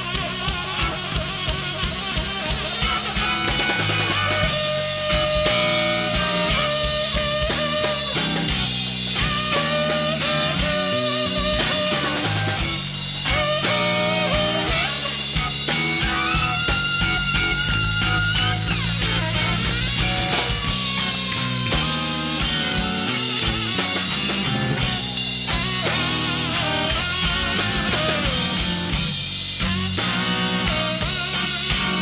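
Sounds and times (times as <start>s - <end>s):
electric guitar bending notes: 0.0s - 32.0s
live blues band playing: 0.0s - 32.0s.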